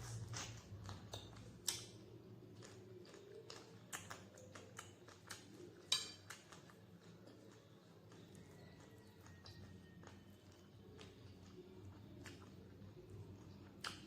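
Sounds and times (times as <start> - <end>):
chewing clicks and smacks: 0.0 - 14.0.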